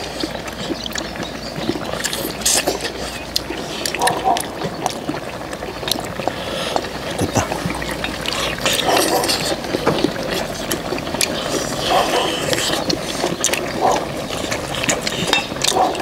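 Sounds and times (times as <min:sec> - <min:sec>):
people slurping and chewing: 0:00.0 - 0:16.0.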